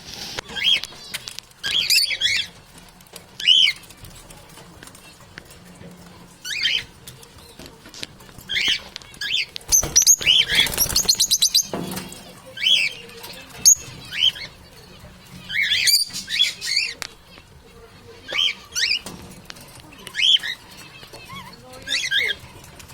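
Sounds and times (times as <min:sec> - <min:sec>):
birds chirping: 0:00.2 - 0:22.9.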